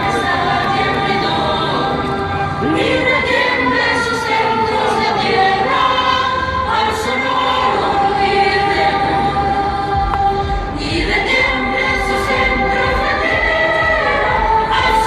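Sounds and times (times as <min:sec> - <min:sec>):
choir singing: 0:00.0 - 0:15.0
musical accompaniment: 0:00.0 - 0:15.0.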